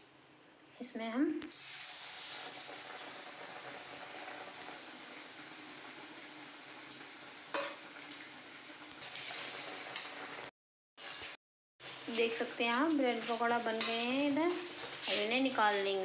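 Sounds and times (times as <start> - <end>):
food sizzling in hot oil: 1.5 - 16.0.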